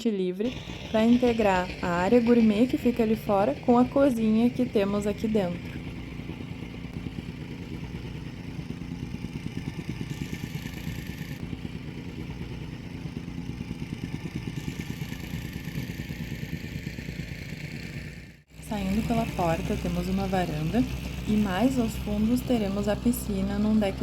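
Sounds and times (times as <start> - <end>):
engine running steadily: 0.4 - 24.0.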